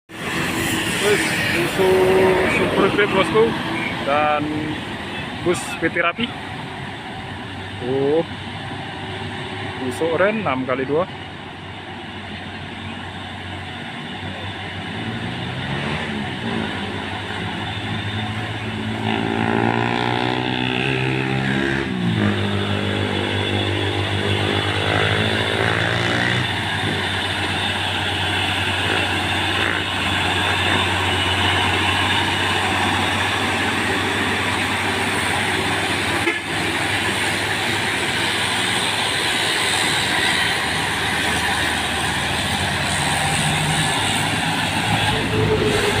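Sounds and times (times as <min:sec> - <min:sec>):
diesel truck engine accelerating: 0:00.1 - 0:46.0
road traffic drone: 0:00.1 - 0:46.0.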